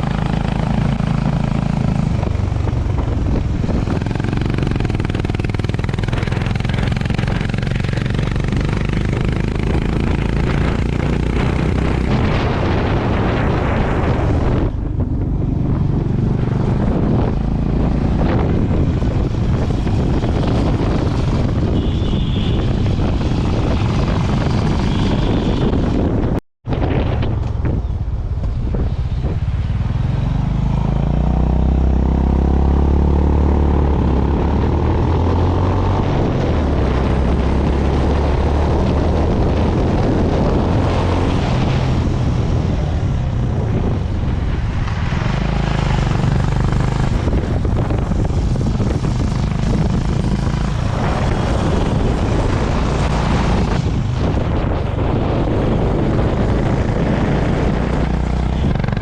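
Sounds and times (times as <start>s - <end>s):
motorcycle engine revving: 0.0s - 26.4s, 28.6s - 59.0s.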